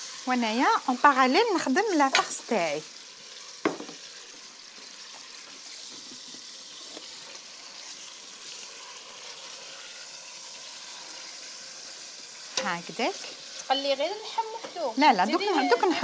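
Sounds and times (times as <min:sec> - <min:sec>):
meat sizzling in butter: 0:00.0 - 0:16.0.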